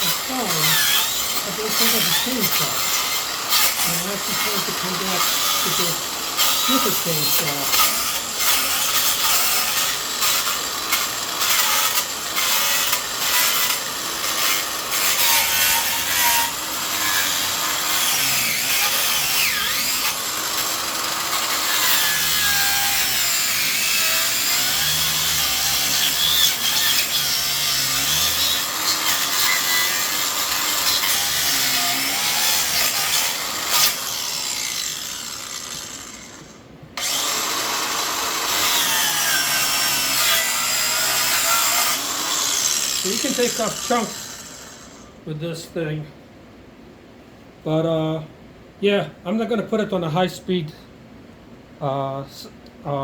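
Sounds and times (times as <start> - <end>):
grinder chain rasping wood: 0.0 - 45.1.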